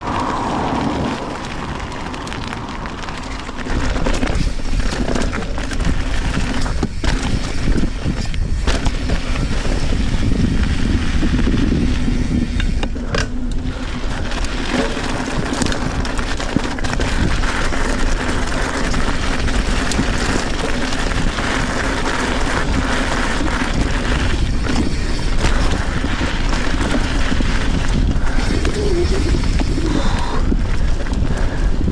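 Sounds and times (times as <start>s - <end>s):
bike tyre rumble on sand: 0.0s - 31.9s
bike knocks and rattles: 0.8s - 31.9s.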